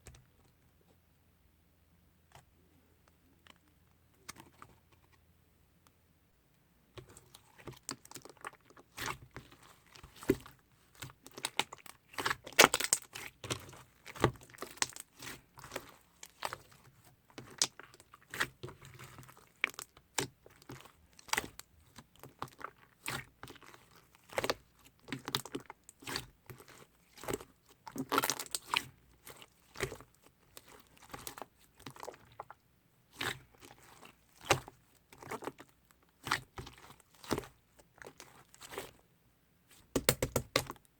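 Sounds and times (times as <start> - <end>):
slime squishing and crackling: 7.0 - 39.0, 39.7 - 40.9.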